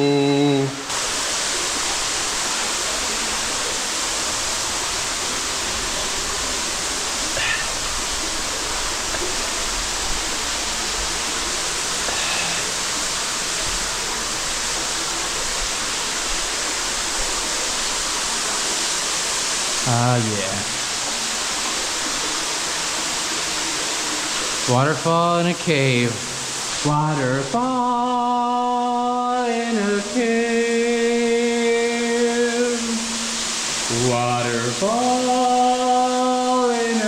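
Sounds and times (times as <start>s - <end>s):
waterfall pouring: 0.0s - 37.0s.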